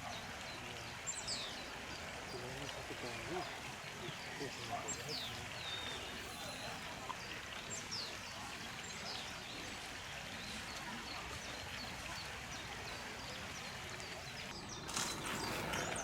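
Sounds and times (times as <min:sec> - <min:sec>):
small birds chirping: 0:00.0 - 0:16.0
steady outdoor hiss: 0:00.0 - 0:16.0.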